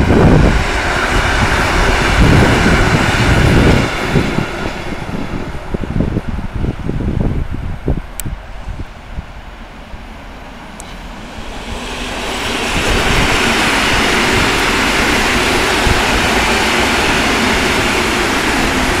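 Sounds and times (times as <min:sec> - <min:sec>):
electric train rolling on rails: 0:00.0 - 0:19.0.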